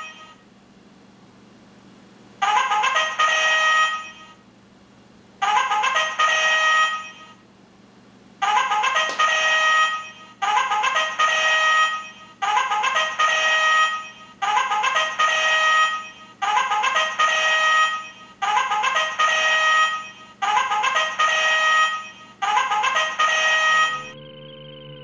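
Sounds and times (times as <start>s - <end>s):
electronic bugle alarm call: 0.0s - 0.4s, 2.4s - 4.4s, 5.4s - 7.4s, 8.4s - 24.4s.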